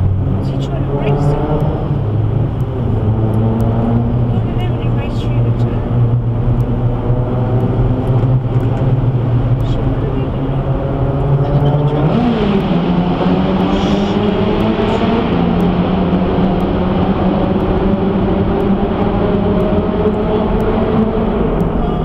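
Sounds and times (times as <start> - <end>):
car engine: 0.0 - 22.0
road roar: 0.0 - 22.0.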